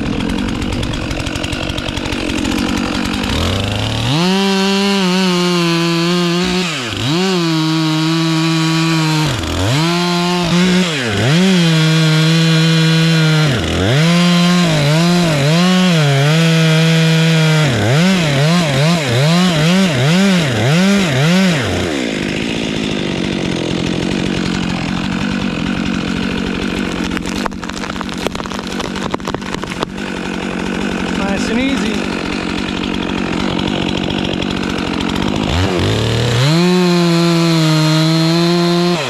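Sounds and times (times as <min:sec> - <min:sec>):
chainsaw cutting wood: 0:00.0 - 0:39.0.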